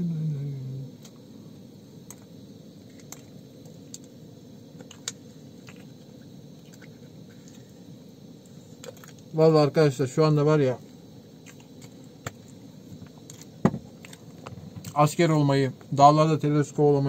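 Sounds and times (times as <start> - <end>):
gas stove burner hissing: 0.0 - 17.0.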